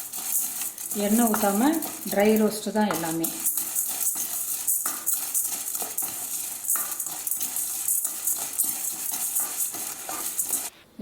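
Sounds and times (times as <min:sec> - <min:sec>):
spatula scraping lentils in pan: 0:00.0 - 0:10.8.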